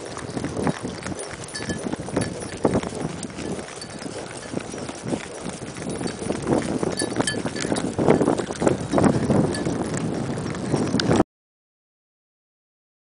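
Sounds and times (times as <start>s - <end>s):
horse hooves clip-clopping: 0.0s - 11.2s.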